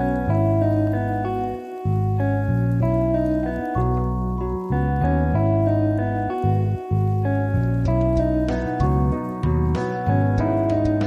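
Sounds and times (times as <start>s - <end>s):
bass line: 0.0s - 11.0s
held keyboard notes: 0.0s - 11.0s.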